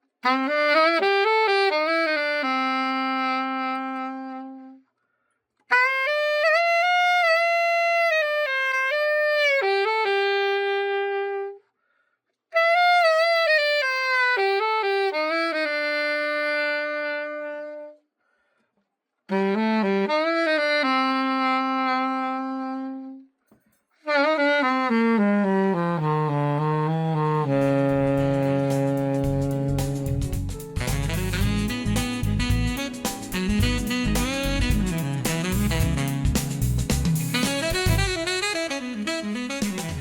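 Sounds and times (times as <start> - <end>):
alto saxophone playing: 0.2 - 4.9, 5.6 - 11.7, 12.5 - 18.0, 19.3 - 23.3, 24.0 - 40.0.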